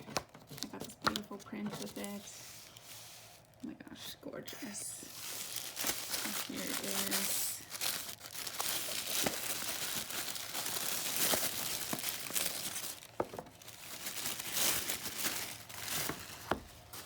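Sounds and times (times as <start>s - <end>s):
packaging crinkling and rustling: 0.0s - 3.7s, 4.7s - 17.0s.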